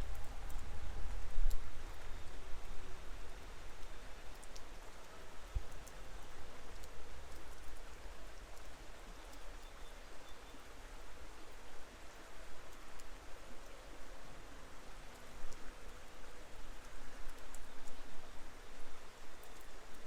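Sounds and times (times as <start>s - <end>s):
small stream running: 0.0s - 20.0s
steady rain falling: 0.0s - 20.0s.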